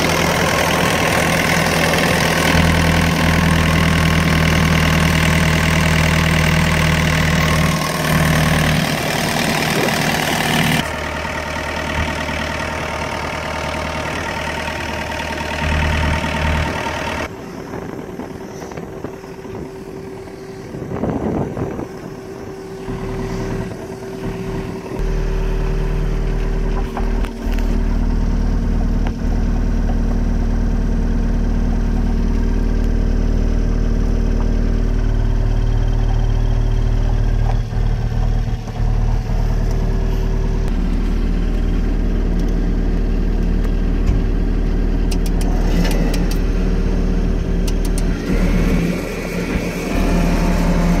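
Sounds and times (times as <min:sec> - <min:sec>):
excavator diesel engine: 0:00.0 - 0:51.0.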